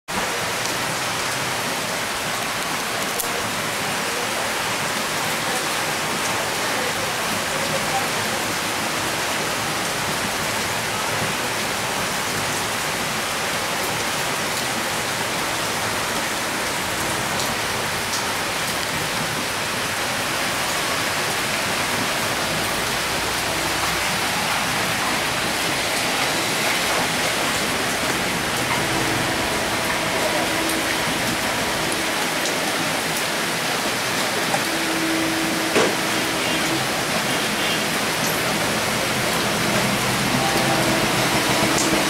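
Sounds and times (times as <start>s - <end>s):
heavy rain on street and roofs: 0.1s - 42.0s.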